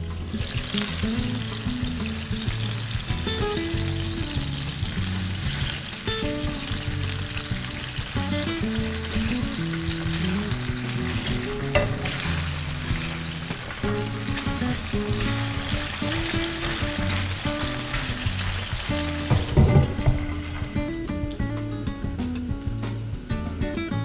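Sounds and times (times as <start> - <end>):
background music: 0.0 - 24.0
food sizzling in a pan: 0.0 - 24.0.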